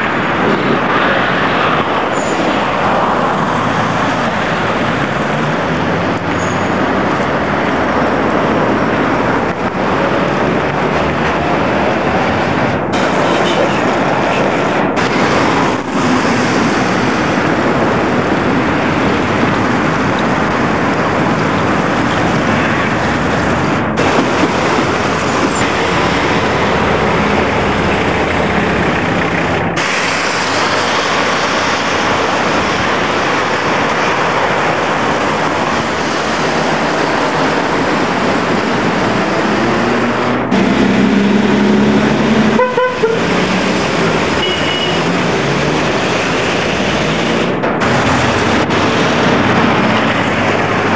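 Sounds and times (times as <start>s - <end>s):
wind on microphone: 0.0s - 42.6s
street traffic rushing: 0.0s - 50.9s.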